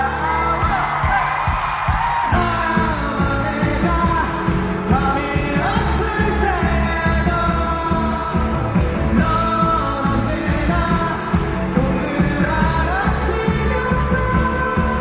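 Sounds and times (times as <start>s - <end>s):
bass guitar: 0.0s - 15.0s
steady drums: 0.0s - 15.0s.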